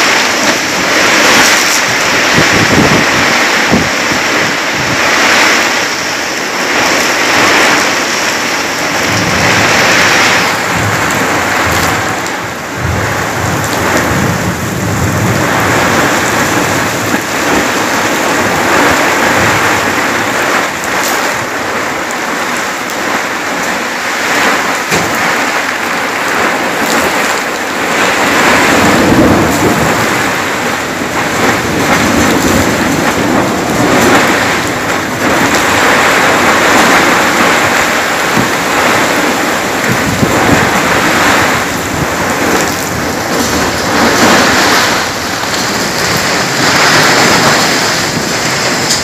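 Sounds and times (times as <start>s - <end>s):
heavy rain pouring: 0.0s - 49.0s
thunder rumbling: 0.0s - 49.0s.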